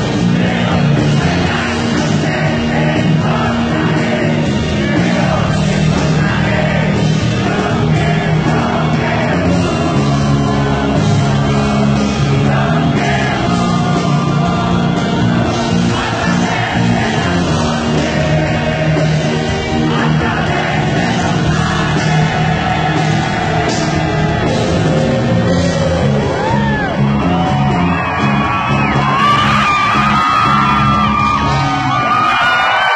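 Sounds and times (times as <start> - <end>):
crowd shouting: 0.0 - 32.9
live rock band playing: 0.0 - 32.9.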